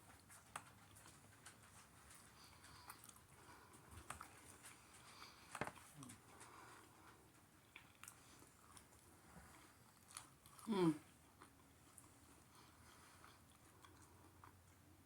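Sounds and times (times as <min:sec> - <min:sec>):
quiet eating mouth noises: 0:00.0 - 0:15.0.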